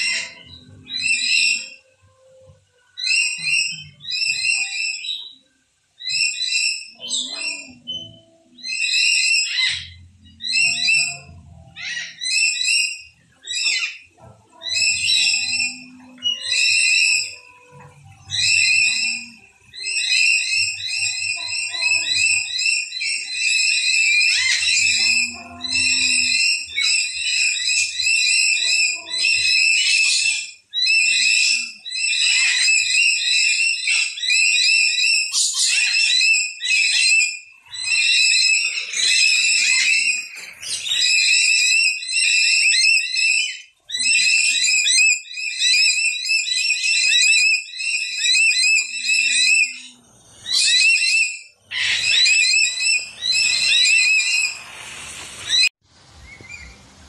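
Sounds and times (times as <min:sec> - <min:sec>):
birds chattering: 0:00.0 - 0:56.8.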